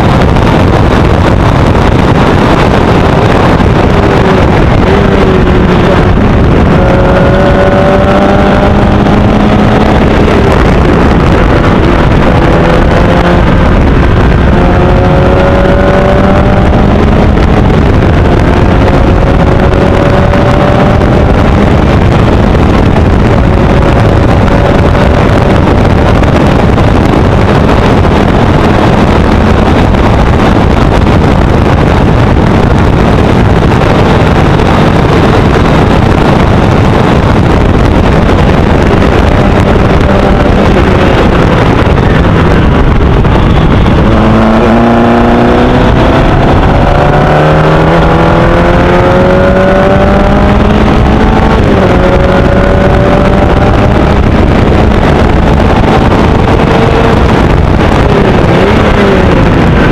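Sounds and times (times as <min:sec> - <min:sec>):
gear change: 0:00.0 - 0:31.1, 0:32.5 - 0:59.9
race car engine revving: 0:00.0 - 0:59.9
wind rush: 0:00.0 - 0:59.9.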